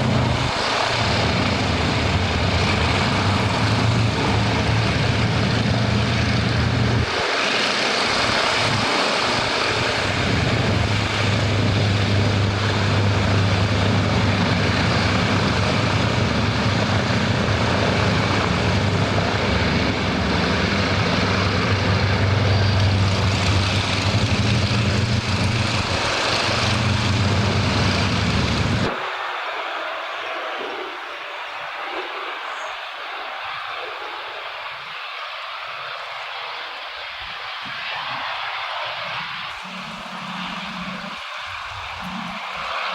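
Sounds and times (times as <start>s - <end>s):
aircraft engine drone: 0.0s - 42.9s.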